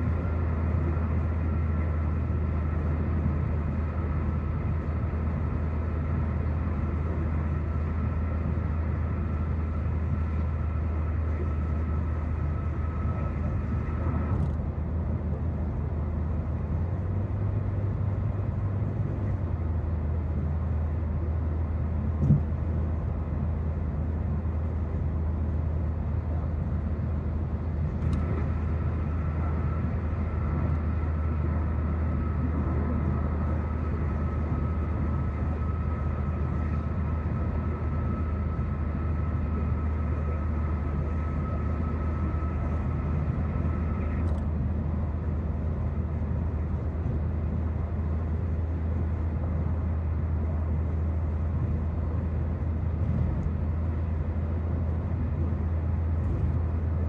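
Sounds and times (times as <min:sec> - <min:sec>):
car road and engine drone: 0:00.0 - 0:57.0.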